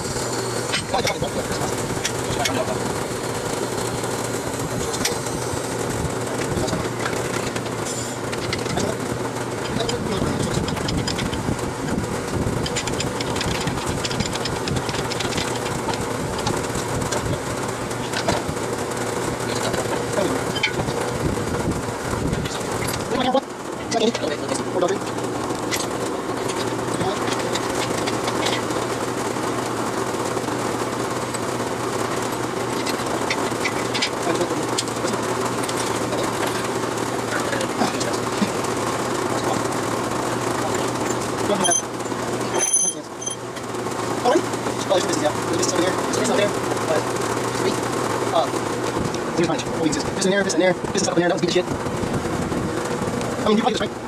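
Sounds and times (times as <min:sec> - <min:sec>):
mechanical hum and rumble: 0:00.0 - 0:54.0.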